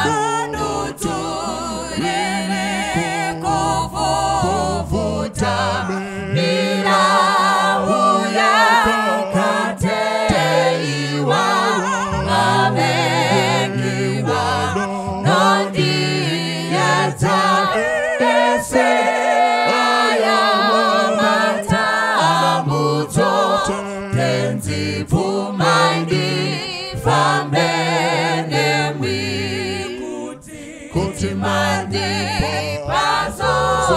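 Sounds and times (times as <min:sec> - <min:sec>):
choir singing a hymn: 0:00.0 - 0:33.9.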